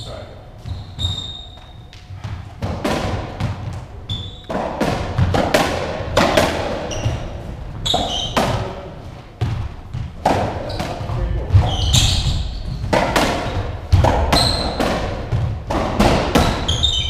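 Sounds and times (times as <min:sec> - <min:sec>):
trainers squeaking on wooden floor: 0:00.0 - 0:02.5, 0:03.5 - 0:05.4, 0:06.3 - 0:17.0
ball hitting rackets and walls: 0:00.0 - 0:17.0.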